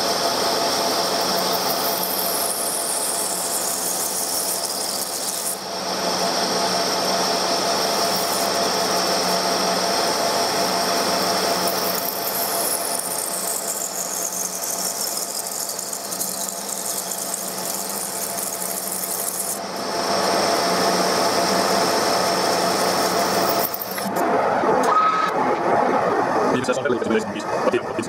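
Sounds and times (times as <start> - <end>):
high machine whine: 0.0 - 28.0
lathe cutting steel: 0.1 - 24.9.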